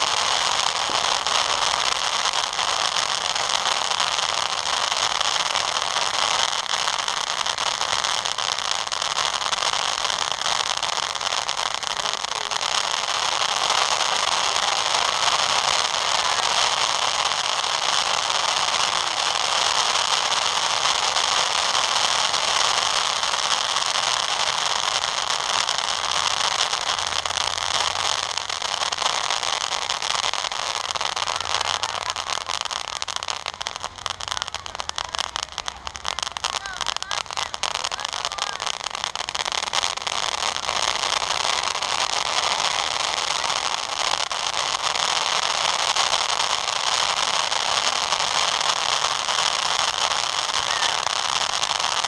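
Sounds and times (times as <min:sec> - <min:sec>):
fireworks hissing and crackling: 0:00.0 - 0:52.0.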